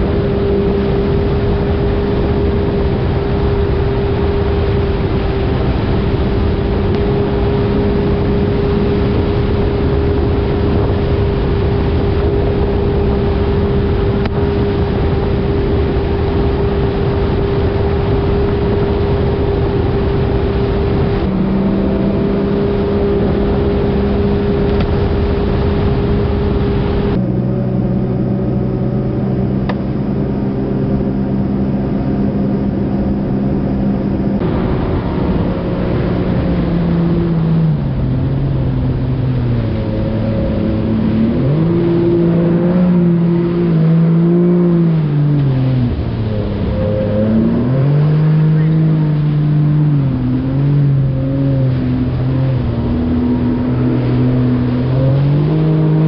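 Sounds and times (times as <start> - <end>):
jet ski engine running: 0.0 - 56.0
rushing water: 0.0 - 56.0.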